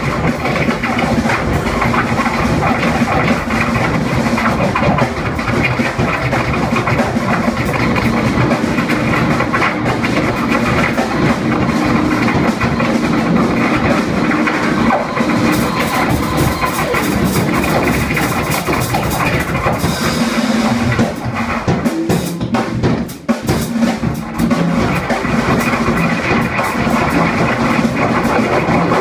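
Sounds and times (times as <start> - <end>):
drums played busily: 0.0 - 29.0
free-improvised music: 0.0 - 29.0
noisy guitar and turntable wash: 0.0 - 29.0.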